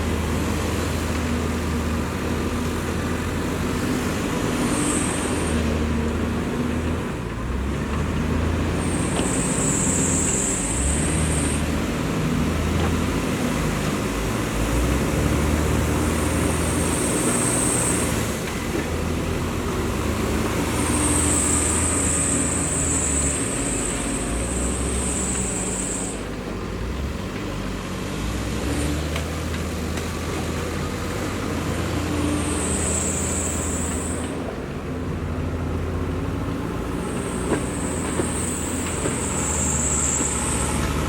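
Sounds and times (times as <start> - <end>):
heavy diesel machinery rumbling: 0.0 - 41.0.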